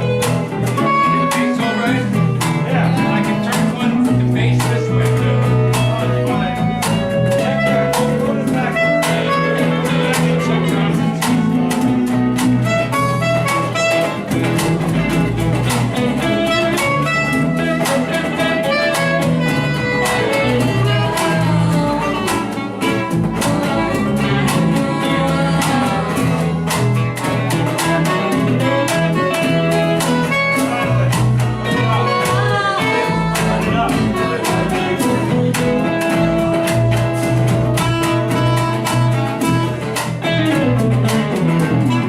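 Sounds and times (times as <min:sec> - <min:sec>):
band playing with guitar and bass: 0:00.0 - 0:42.0.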